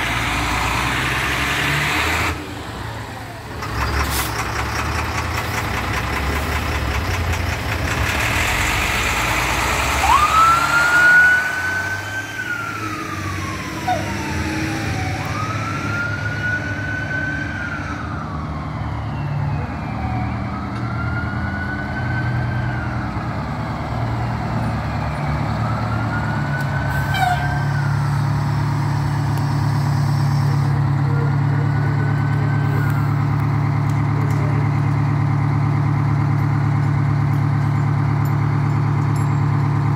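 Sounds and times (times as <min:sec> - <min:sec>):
diesel engine idling: 0:00.0 - 0:18.4, 0:22.7 - 0:39.9
fire truck siren wailing: 0:00.0 - 0:39.0.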